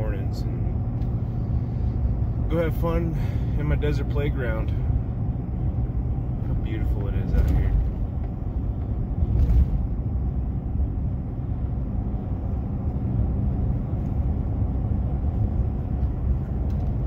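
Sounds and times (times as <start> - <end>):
tyre and engine rumble: 0.0 - 17.0.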